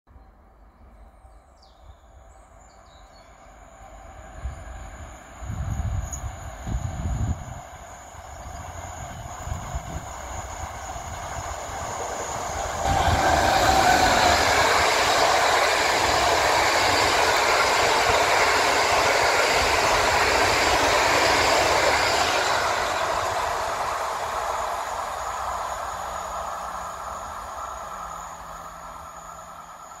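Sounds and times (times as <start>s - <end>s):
train wheels on rails passing: 2.5s - 30.0s.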